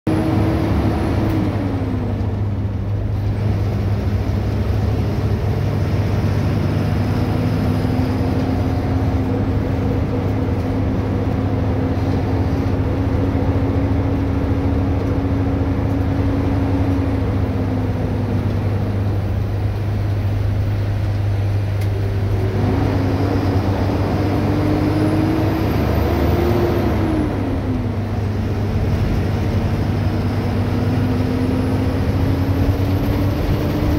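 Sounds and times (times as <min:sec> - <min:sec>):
bus diesel engine droning: 0:00.1 - 0:33.9.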